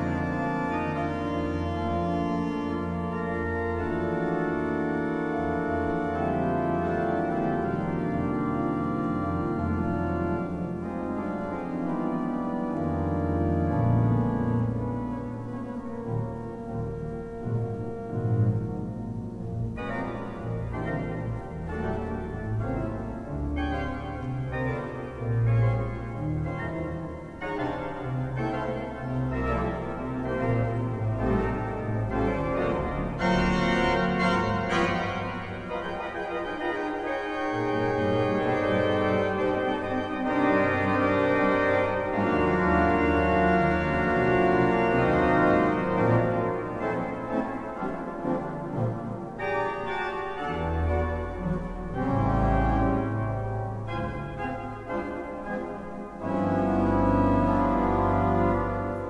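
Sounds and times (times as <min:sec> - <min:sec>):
pipe organ playing jazz chords: 0:00.0 - 0:59.0.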